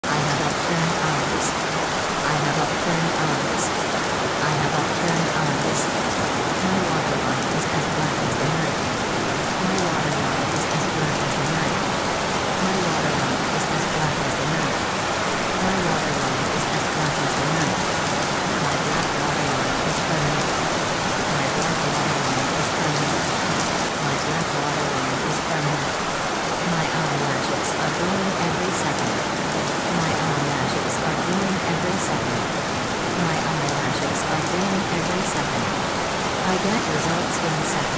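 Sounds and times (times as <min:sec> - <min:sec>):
rain hiss: 0:00.0 - 0:37.9.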